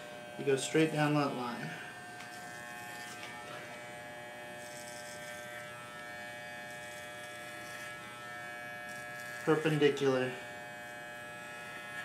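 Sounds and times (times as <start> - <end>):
pet clipper buzzing: 0.0 - 12.0.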